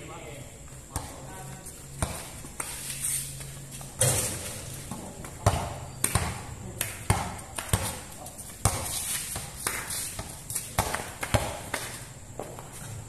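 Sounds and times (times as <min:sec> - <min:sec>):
basketball bouncing on concrete: 0:00.9 - 0:02.8, 0:03.7 - 0:12.7.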